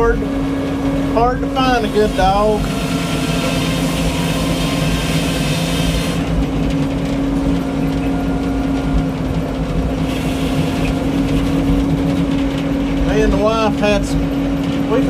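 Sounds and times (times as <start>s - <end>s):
sawmill engine low drone: 0.0s - 15.0s.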